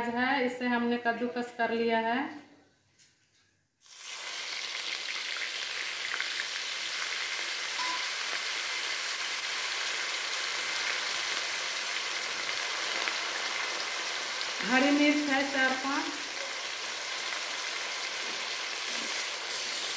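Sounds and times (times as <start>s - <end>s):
onion sizzling in hot oil: 3.8s - 19.9s.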